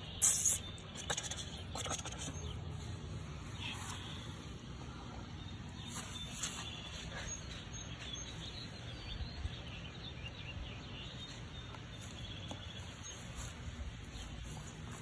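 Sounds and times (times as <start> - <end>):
small birds chirping: 0.0 - 15.0
steady low rumble: 1.0 - 15.0.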